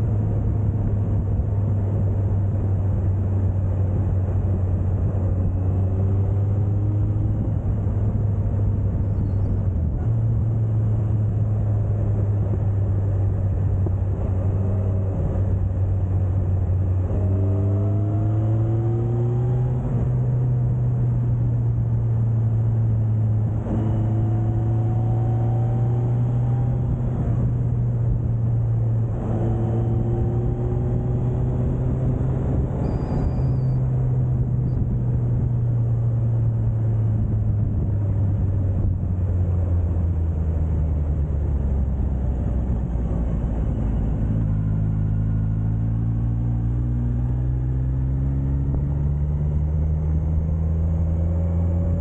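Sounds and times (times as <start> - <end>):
motorcycle engine accelerating: 0.0 - 52.0
wind and road noise: 0.0 - 52.0.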